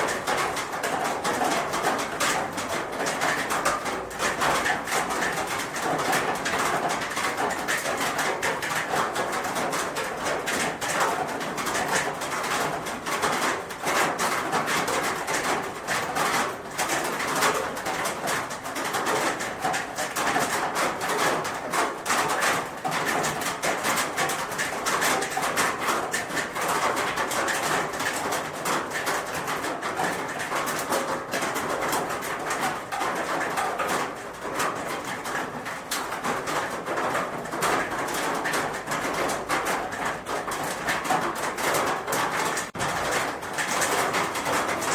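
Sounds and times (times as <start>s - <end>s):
rain on a roof: 0.0s - 44.9s.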